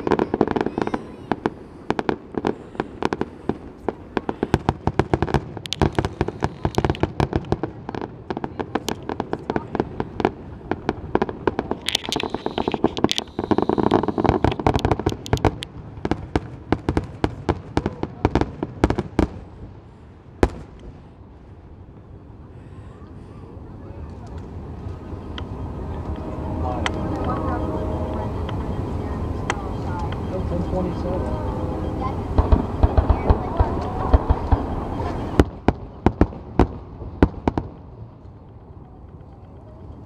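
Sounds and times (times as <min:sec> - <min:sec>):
fireworks bangs: 0:00.0 - 0:21.1, 0:24.0 - 0:38.8
fireworks rumble and crackle: 0:00.0 - 0:40.0.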